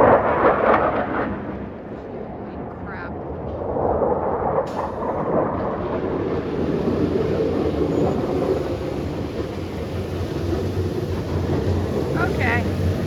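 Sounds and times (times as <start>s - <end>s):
fighter jet passing over: 0.0s - 13.0s.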